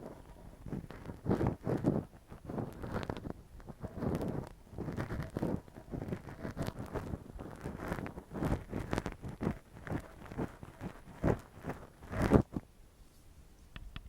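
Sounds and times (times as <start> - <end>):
close scratching and rubbing: 0.0 - 13.3.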